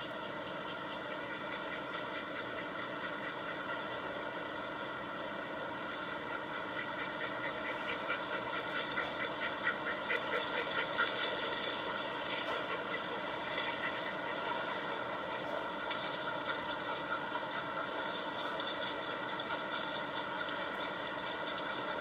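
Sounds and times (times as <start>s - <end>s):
machine-like drone: 0.0s - 22.0s
rhythmic pulsing: 0.0s - 22.0s.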